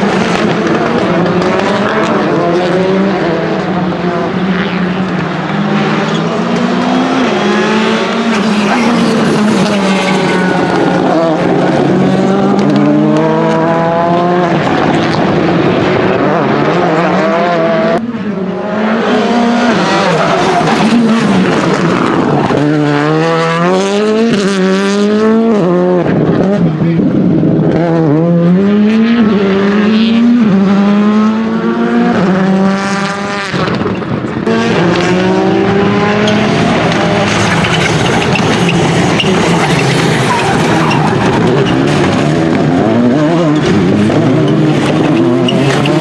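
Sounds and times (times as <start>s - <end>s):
rally car engine at full throttle: 0.0s - 46.0s.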